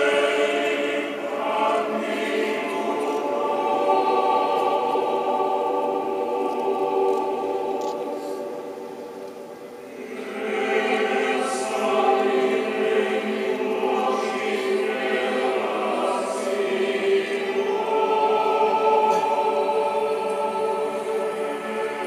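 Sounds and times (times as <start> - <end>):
choir singing sacred music: 0.0 - 22.0.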